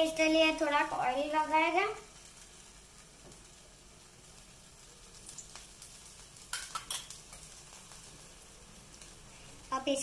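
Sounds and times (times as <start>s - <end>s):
batter sizzling in a pan: 0.0s - 10.0s
sharp crackles: 0.0s - 10.0s.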